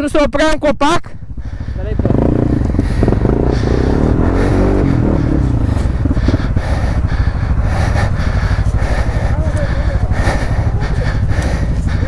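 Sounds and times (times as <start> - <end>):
atv engine revving: 1.1 - 12.0.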